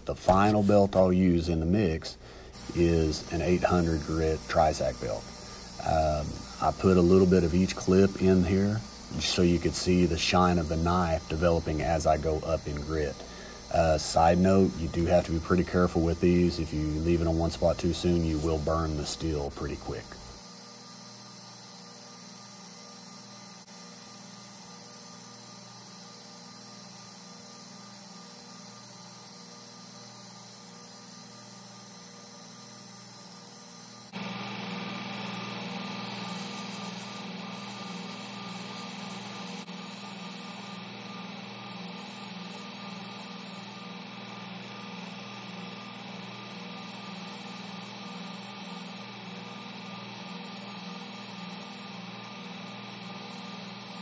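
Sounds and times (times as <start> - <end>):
belt grinder motor humming: 0.0 - 54.0.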